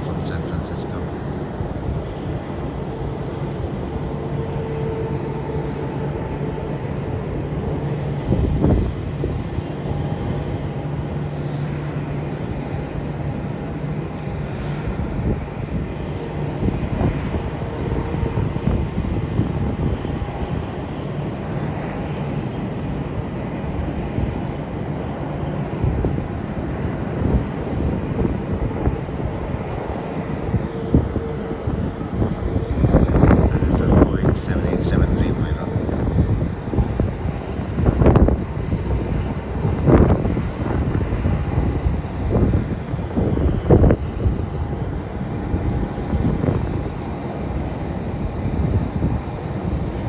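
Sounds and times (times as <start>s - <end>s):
faint engine whine: 0.0s - 50.0s
jet engines roaring: 0.0s - 50.0s
wind buffeting microphone: 0.0s - 50.0s.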